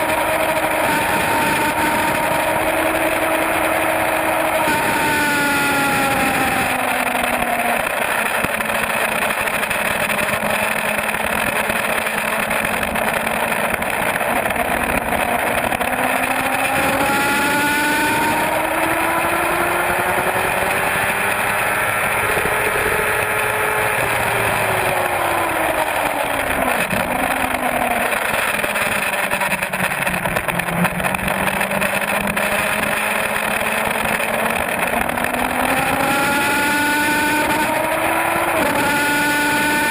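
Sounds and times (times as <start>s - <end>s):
motorcycle engine at speed: 0.0s - 39.9s
wind rush on camera: 0.0s - 39.9s.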